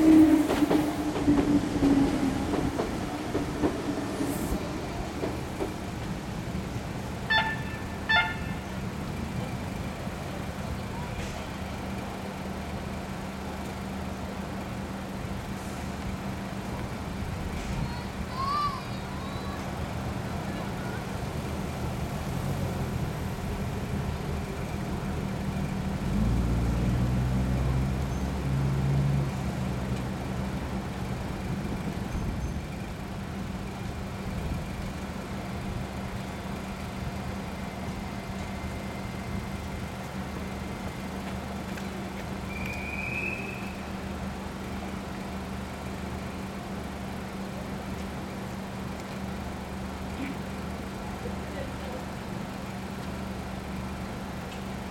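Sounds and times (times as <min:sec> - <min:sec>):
vehicle engines running: 0:00.0 - 0:18.3, 0:19.0 - 0:54.9.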